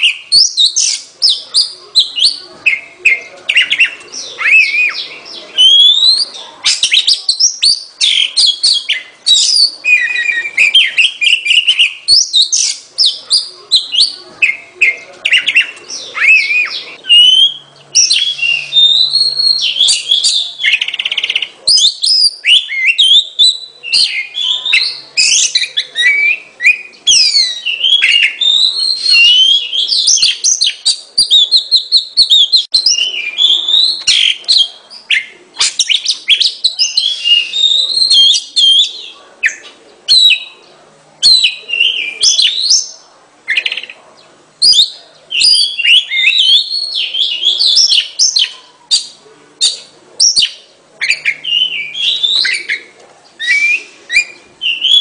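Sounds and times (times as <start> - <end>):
bird singing whistled phrases: 0.0 - 40.6, 41.2 - 44.0, 44.6 - 55.0.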